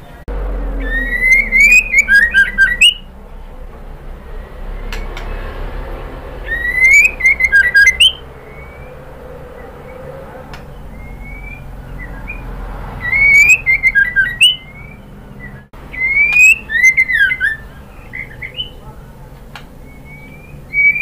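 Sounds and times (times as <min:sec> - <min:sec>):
bird singing whistled notes: 0:00.0 - 0:03.2, 0:06.4 - 0:18.9, 0:19.8 - 0:21.0.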